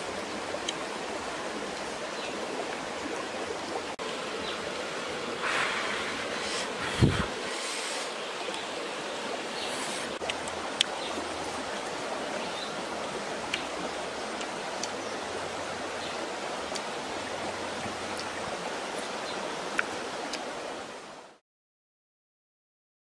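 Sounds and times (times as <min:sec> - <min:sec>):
stream running over rocks: 0:00.0 - 0:21.4.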